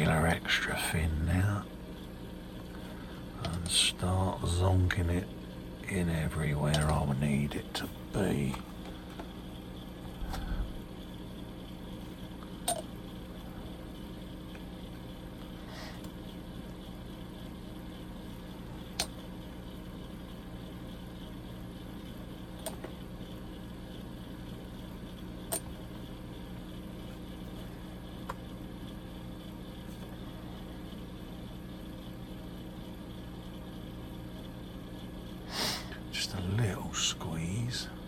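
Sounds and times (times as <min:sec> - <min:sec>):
electrical hum: 0:00.0 - 0:38.0.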